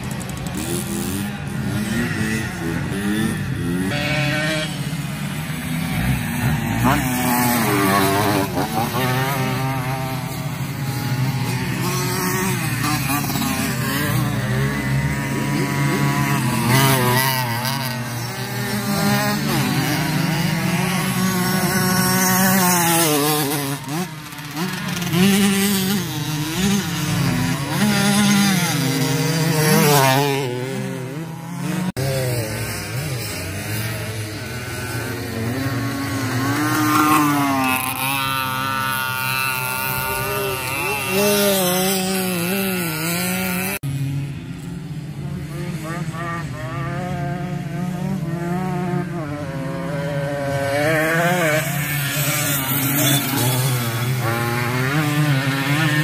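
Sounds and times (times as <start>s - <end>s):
racing motorcycles revving: 0.0s - 56.0s.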